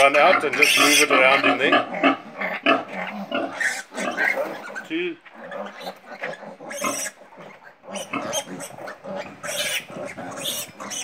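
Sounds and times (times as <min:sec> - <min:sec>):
piglets grunting and squealing: 0:00.0 - 0:11.0.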